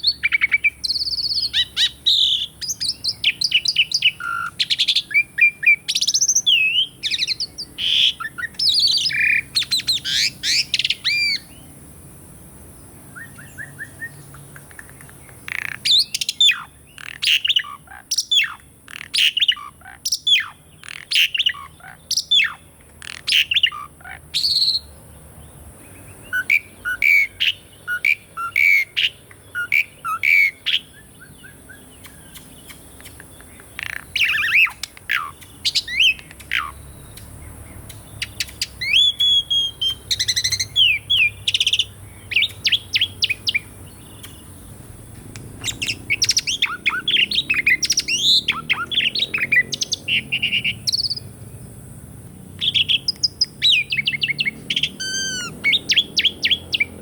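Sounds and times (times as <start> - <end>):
starling singing: 0.0 - 11.7, 13.1 - 25.0, 25.8 - 51.3, 52.6 - 57.0.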